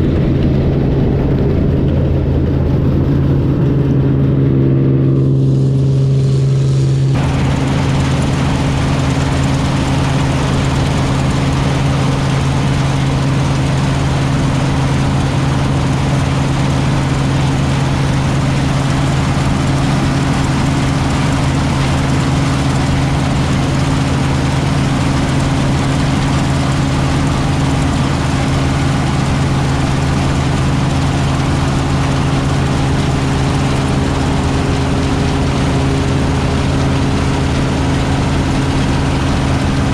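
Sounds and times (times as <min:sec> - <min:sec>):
engine hum: 0:00.0 - 0:39.9
rush of machinery noise: 0:00.0 - 0:39.9.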